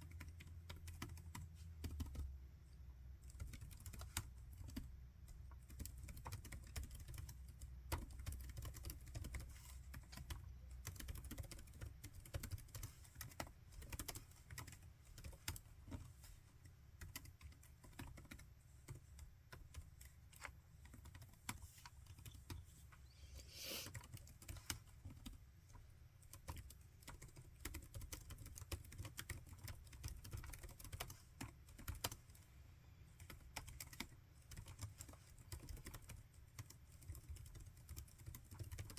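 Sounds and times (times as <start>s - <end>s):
laptop keyboard typing: 0.0s - 2.4s, 3.2s - 23.0s, 23.8s - 32.5s, 33.1s - 38.9s.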